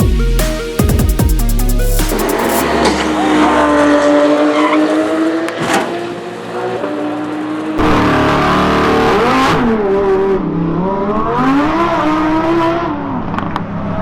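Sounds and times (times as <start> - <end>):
car engine at high revs: 2.2 - 14.0.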